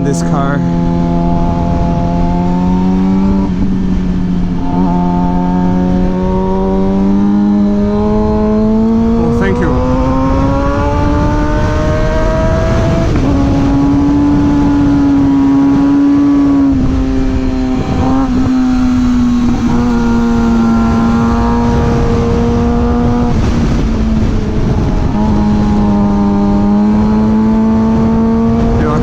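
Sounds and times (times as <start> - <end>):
motorcycle engine cruising: 0.0 - 29.0
wind rush on microphone: 0.0 - 29.0.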